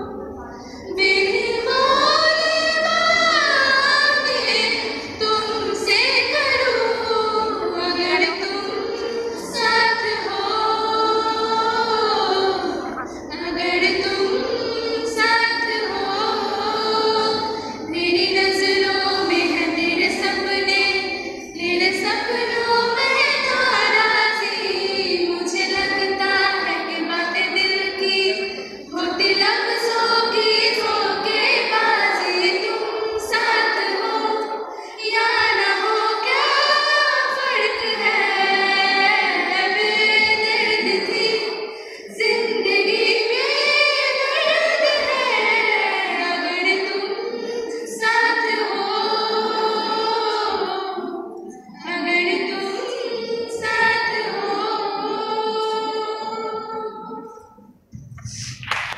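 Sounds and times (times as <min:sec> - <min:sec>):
girls singing: 0:00.0 - 0:58.9.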